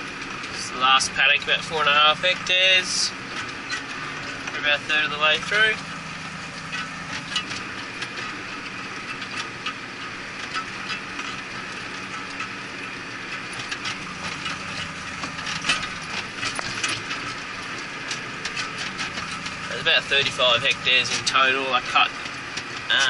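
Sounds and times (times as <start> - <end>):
tractor engine hum: 0.0 - 23.0
clicks and rattles: 0.2 - 23.0.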